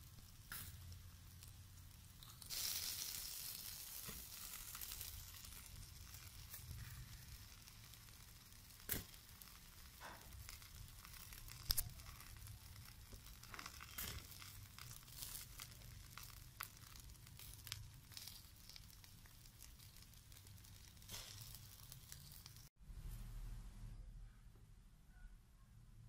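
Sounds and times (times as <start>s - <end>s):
chicken sizzling on charcoal grill: 0.0s - 22.7s
crackles and pops: 0.0s - 22.7s.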